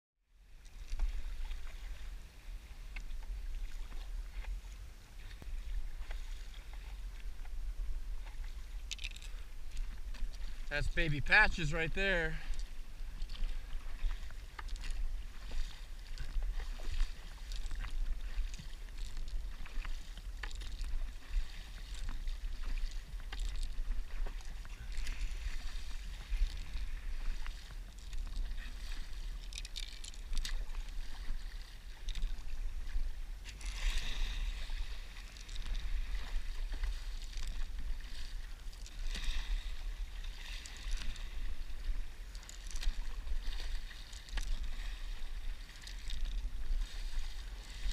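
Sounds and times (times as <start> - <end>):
paddle strokes in water: 0.4 - 47.9
wind rumble on microphone: 0.5 - 11.0, 12.4 - 47.9
water splashing: 0.5 - 47.9.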